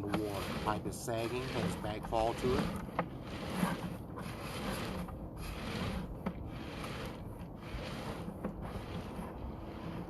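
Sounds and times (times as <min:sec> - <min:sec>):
cable scraping in drain pipe: 0:00.0 - 0:10.0.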